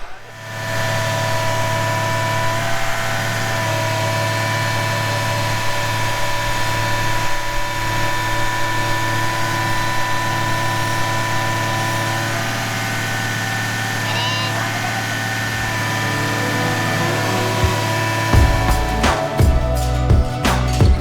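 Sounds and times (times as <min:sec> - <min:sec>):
excavator engine idling: 0:00.2 - 0:21.0.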